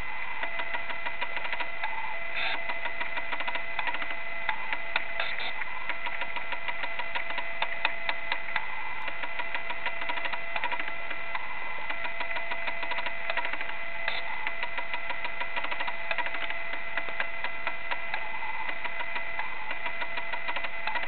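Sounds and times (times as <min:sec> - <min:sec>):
small clicks and crackles: 0:00.4 - 0:21.0.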